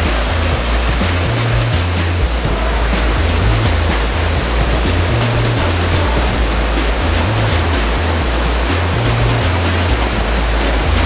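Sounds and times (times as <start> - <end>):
low rumble: 0.0 - 11.0
water rushing over rocks: 0.0 - 11.0.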